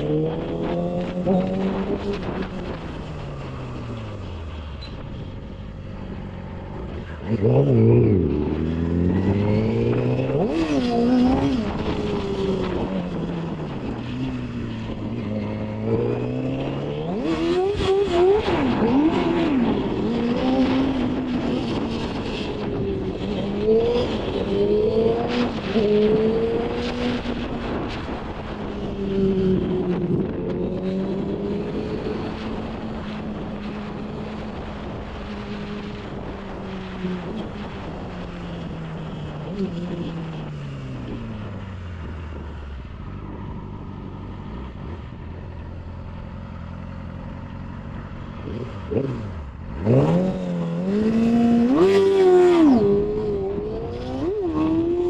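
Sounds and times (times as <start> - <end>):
motorcycle engine revving: 0.0 - 4.6, 5.7 - 55.0
wind noise on microphone: 0.0 - 46.2, 47.0 - 55.0.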